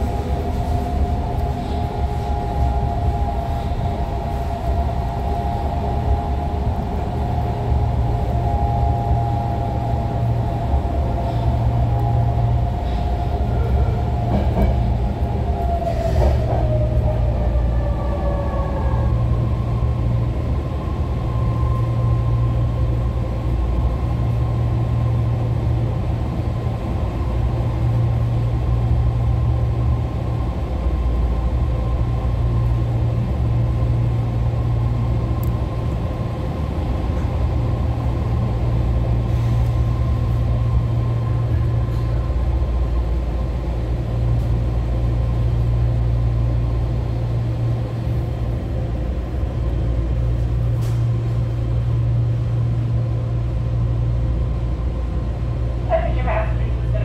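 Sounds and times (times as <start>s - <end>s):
train running hum and rumble: 0.0s - 57.0s.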